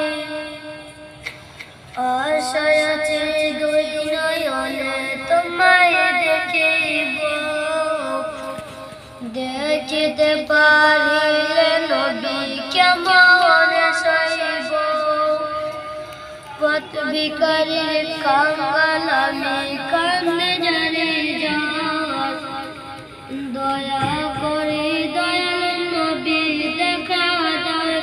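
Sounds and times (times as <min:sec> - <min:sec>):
boy singing devotional song: 0:00.0 - 0:28.0.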